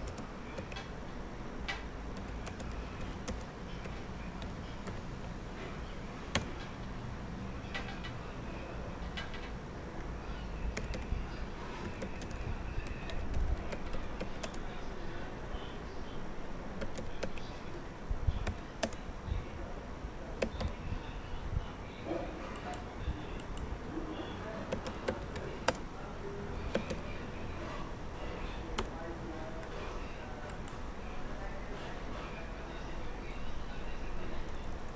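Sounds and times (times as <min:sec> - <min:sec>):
low room rumble: 0:00.0 - 0:34.9.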